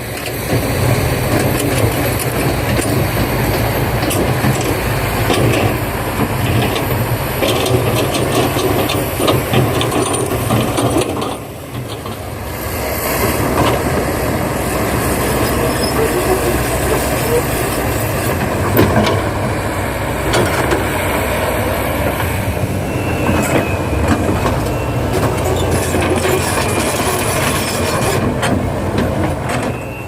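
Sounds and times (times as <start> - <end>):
excavator running: 0.0 - 30.0.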